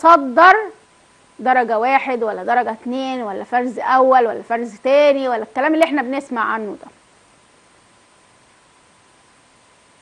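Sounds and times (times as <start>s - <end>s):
studio room tone hiss: 0.0s - 10.0s.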